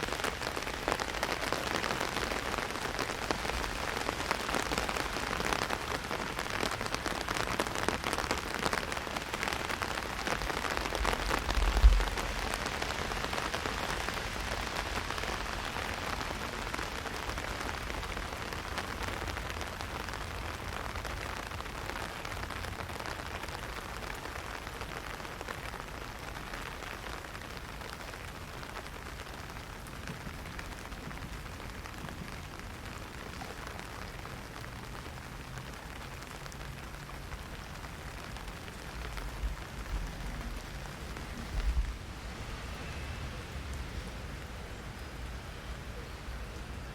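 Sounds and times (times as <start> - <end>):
heavy rain striking an umbrella: 0.0 - 46.9.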